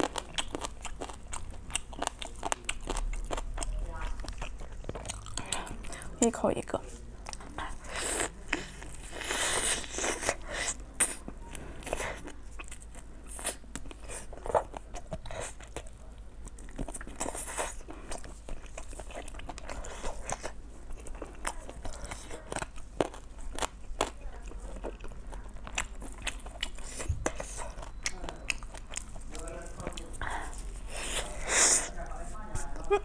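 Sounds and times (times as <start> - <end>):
chewing with wet crunches: 0.0 - 32.9.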